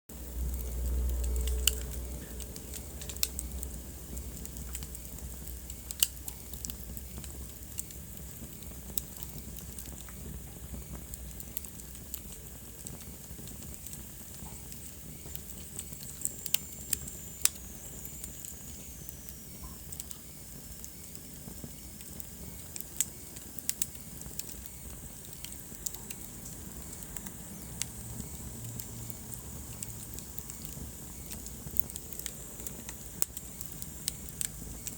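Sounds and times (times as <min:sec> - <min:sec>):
low rumble and hiss: 0:00.1 - 0:34.9
wood fire crackling and popping: 0:00.1 - 0:34.9.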